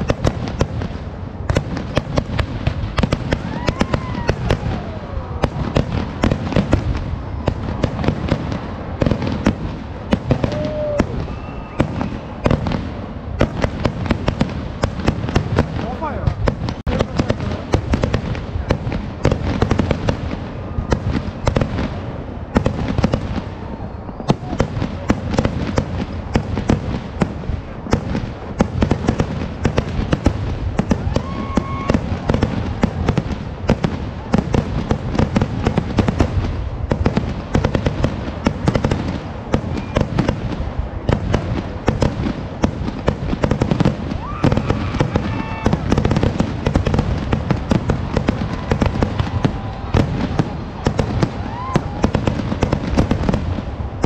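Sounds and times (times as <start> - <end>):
fireworks crackling: 0.0 - 54.0
rapid fireworks bangs: 0.0 - 54.0.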